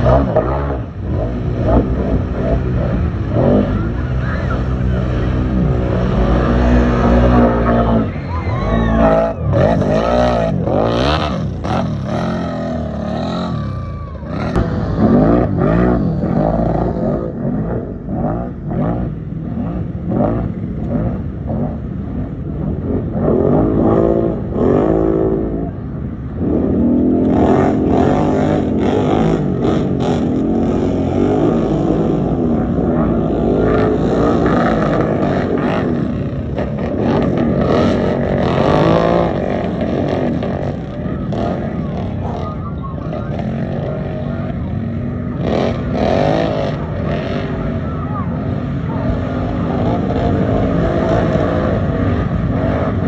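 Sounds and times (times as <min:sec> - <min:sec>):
racing vehicle engines revving: 0:00.0 - 0:53.0.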